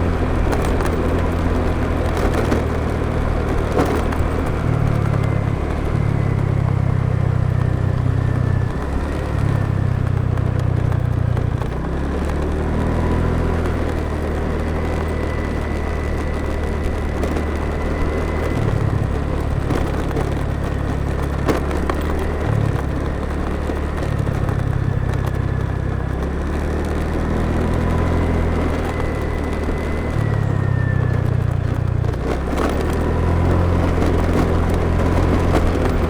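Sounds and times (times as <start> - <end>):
motorbike engine running: 0.0 - 36.0
wind and road noise: 0.0 - 36.0.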